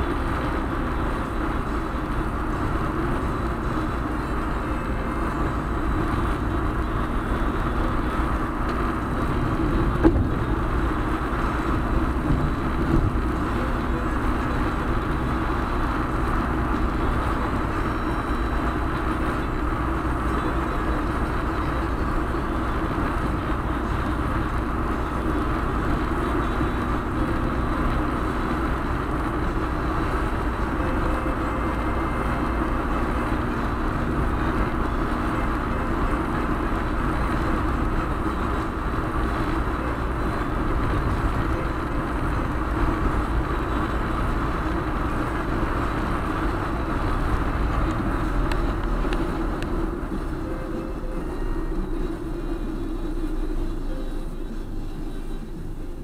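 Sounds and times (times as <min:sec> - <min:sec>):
car driving road and engine noise: 0:00.0 - 0:56.0.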